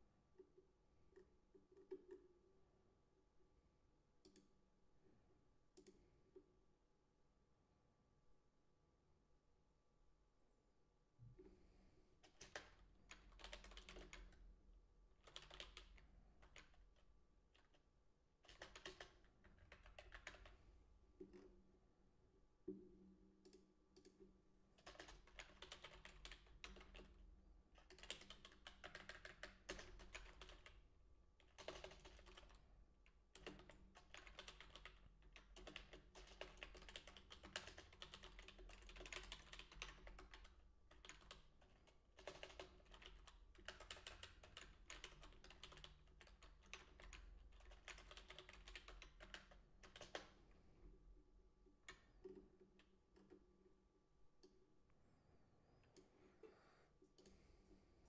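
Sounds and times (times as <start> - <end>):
faint keyboard typing: 0.3 - 2.6, 4.2 - 6.5, 12.2 - 21.7, 22.6 - 53.8, 55.8 - 58.0.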